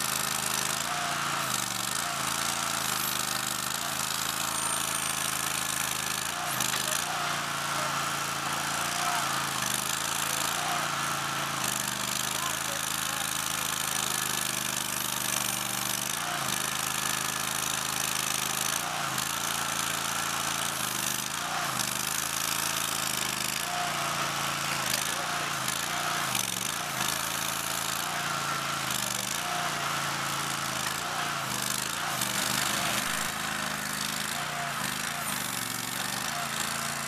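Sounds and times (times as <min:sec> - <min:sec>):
mini loader engine running: 0:00.0 - 0:37.0.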